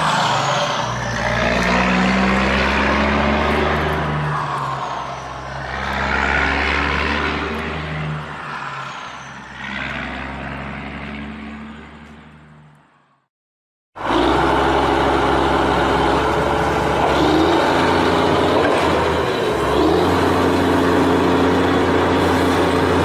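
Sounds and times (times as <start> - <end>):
vehicle engine hum: 0.0 - 13.2, 14.0 - 23.0.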